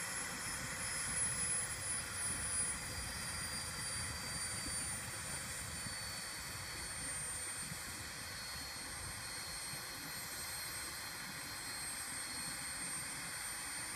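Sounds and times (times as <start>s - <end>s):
helicopter turbine whine: 0.0s - 13.9s.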